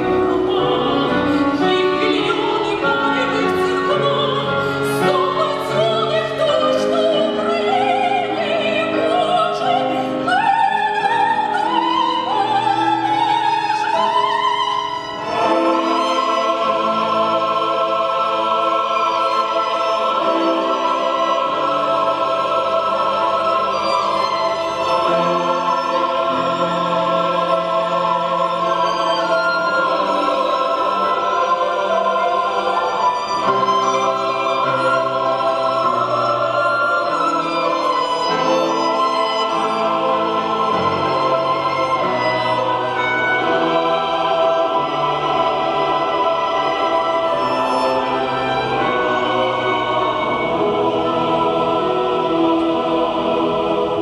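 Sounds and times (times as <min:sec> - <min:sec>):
choir singing sustained chords: 0:00.0 - 0:54.0
solo violin melody: 0:00.0 - 0:54.0.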